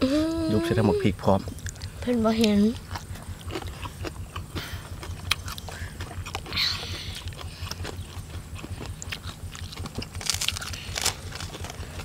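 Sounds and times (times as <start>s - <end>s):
steady low rumble: 1.1s - 12.0s
chewing clicks and smacks: 1.4s - 12.0s.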